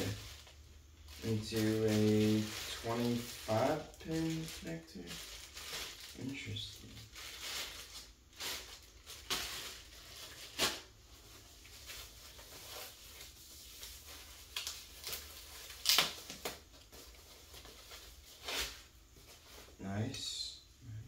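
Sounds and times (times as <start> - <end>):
plastic packaging crinkling: 0.0 - 19.8.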